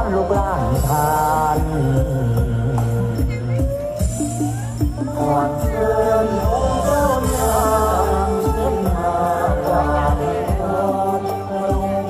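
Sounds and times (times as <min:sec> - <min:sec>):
low regular drum beat: 0:00.0 - 0:12.0
person singing wavering melody: 0:00.0 - 0:12.0.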